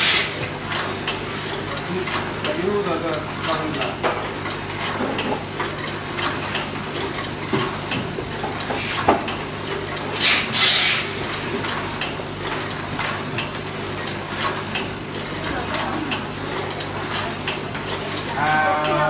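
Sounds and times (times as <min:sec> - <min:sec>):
wrapping machine hum and clicking: 0:00.0 - 0:19.0.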